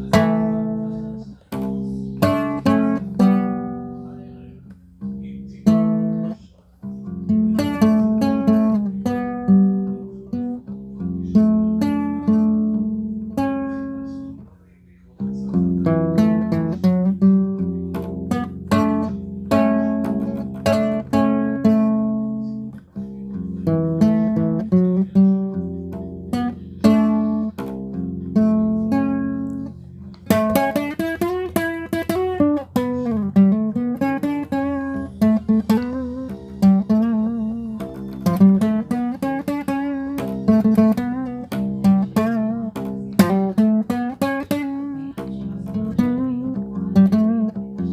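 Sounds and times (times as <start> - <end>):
guitar music: 0.0 - 47.9.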